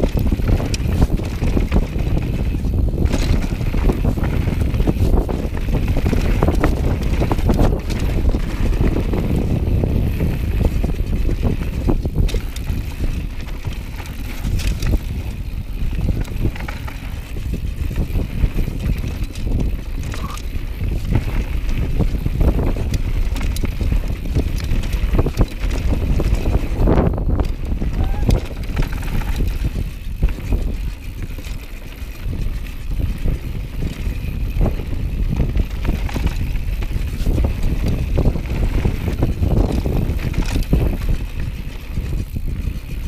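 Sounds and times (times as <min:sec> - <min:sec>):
bike clicks and knocks on stones: 0:00.0 - 0:43.0
tyres rumbling on gravel: 0:00.0 - 0:43.0
wind buffeting microphone: 0:00.0 - 0:43.0.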